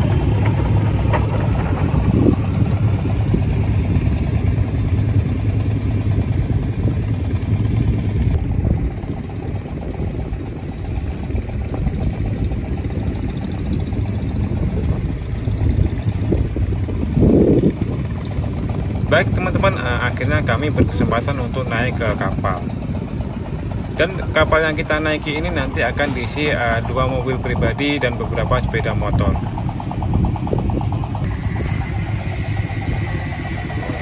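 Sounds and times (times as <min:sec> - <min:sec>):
car engines running at low speed: 0:00.0 - 0:34.0.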